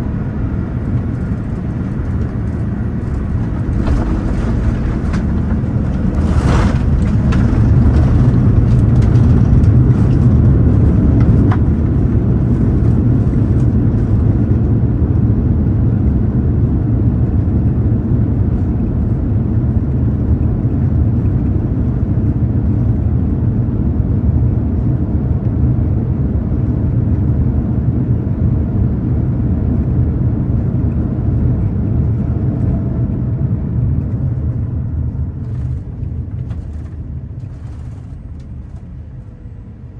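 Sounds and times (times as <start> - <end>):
rumble of wheels and engines: 0.0 - 39.9.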